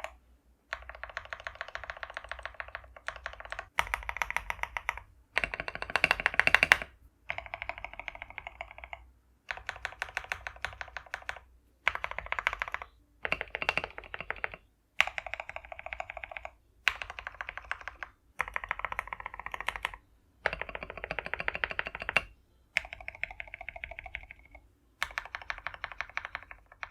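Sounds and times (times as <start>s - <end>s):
mechanical keyboard keys clacking: 0.7s - 26.9s.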